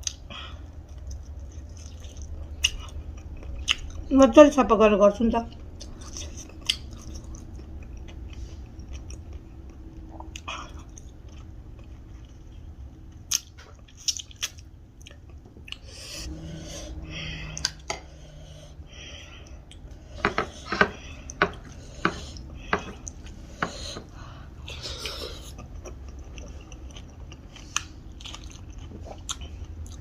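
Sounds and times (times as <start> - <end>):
person chewing food: 0.0 - 4.1, 5.5 - 30.0.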